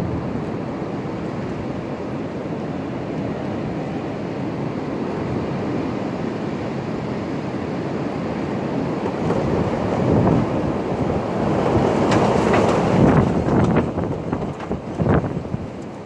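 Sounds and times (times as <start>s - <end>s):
gusty wind through trees: 0.0s - 16.0s
wind buffeting microphone: 0.0s - 16.0s.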